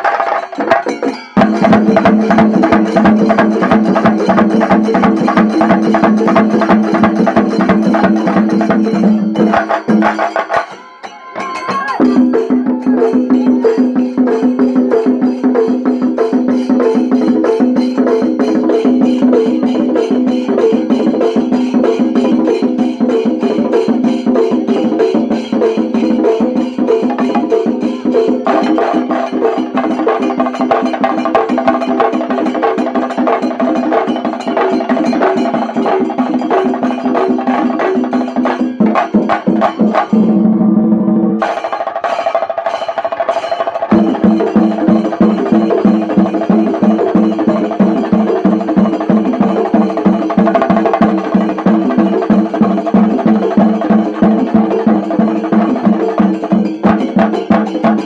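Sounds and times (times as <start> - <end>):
ensemble of drums beaten fast: 0.0 - 58.0.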